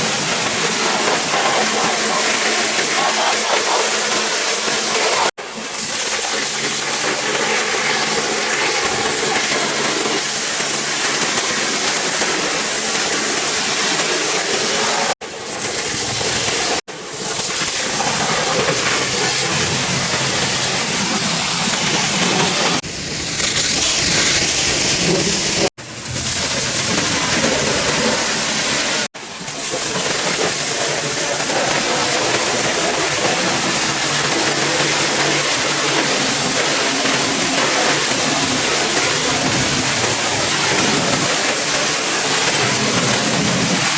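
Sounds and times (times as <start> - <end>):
pressure washer spraying water: 0.0 - 43.9.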